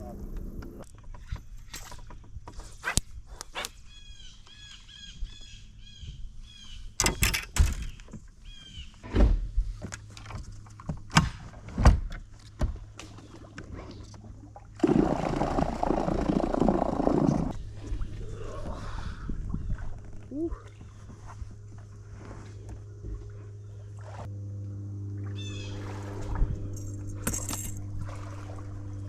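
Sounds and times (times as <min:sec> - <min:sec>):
steady low hum: 0:00.0 - 0:00.9, 0:05.6 - 0:29.0.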